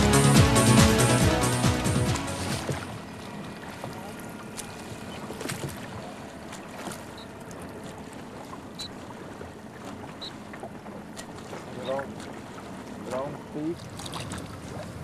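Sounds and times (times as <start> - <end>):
water lapping and splashing: 0.0 - 15.0.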